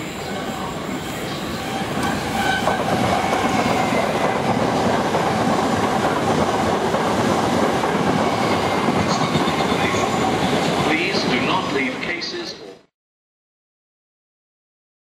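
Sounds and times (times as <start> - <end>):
train passing at speed: 0.0 - 12.6.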